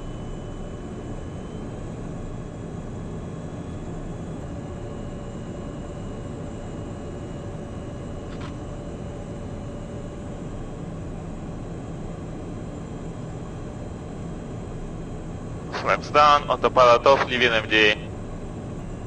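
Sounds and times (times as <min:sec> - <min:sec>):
faint high engine whine: 0:00.0 - 0:19.0
jet cabin drone: 0:00.0 - 0:19.0.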